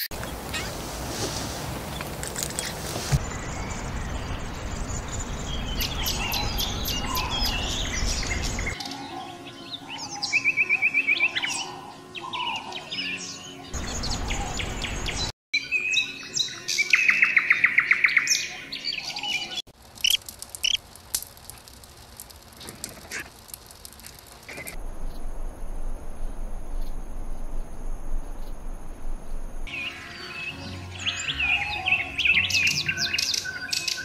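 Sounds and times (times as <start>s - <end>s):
songbirds chirping: 0.2s - 20.8s, 26.1s - 34.0s.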